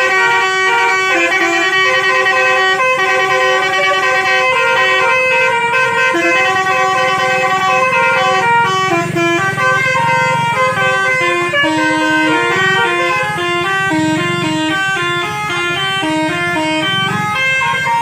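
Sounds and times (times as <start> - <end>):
musical air horn playing a tune: 0.0 - 18.0.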